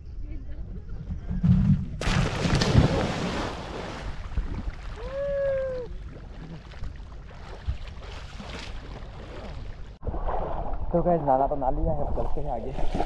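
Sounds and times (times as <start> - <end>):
water splashing: 2.0 - 13.0.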